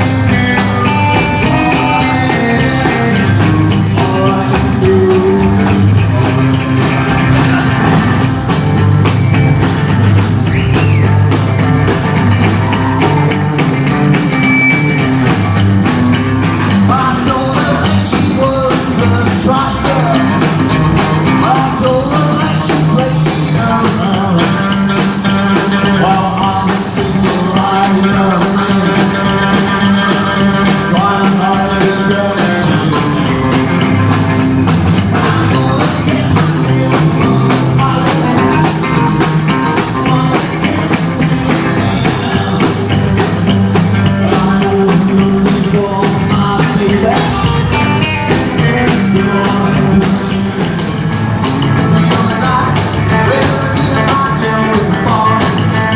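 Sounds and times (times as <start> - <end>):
person singing: 0.0 - 8.8, 16.7 - 55.9
drum kit: 0.0 - 55.9
electric guitars: 0.0 - 55.9
upright double bass: 0.0 - 55.9.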